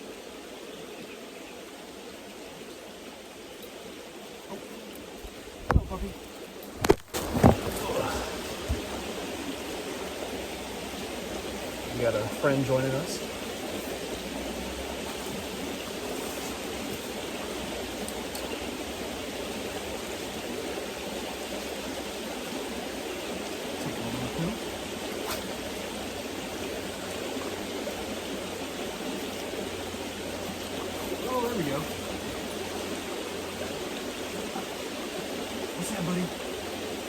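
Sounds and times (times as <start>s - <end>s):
creek water running over rocks: 0.0s - 37.0s.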